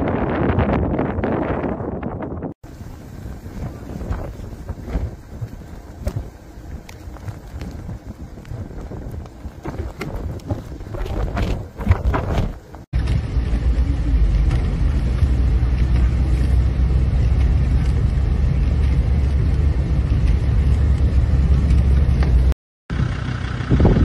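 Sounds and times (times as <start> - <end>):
wind buffeting microphone: 0.0 - 22.5, 23.6 - 24.0
car cabin rumble: 2.7 - 22.5.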